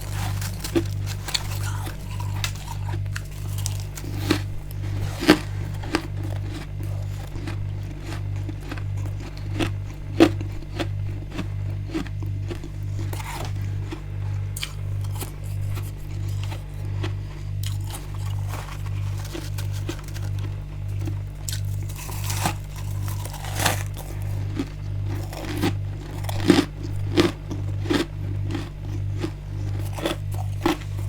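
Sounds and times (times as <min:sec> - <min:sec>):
frost crunching being chewed: 0:00.0 - 0:31.0
low pulsing hum: 0:00.0 - 0:31.0.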